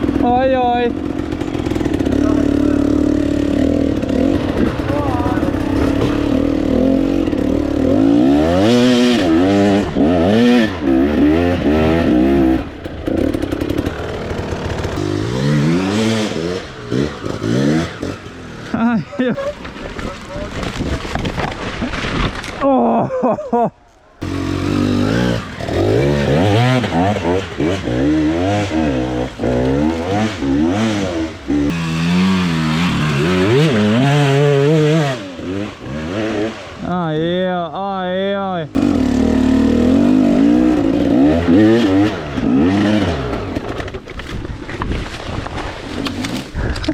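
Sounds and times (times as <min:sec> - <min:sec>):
dirt bike engine revving: 0:00.0 - 0:21.2, 0:24.2 - 0:44.1.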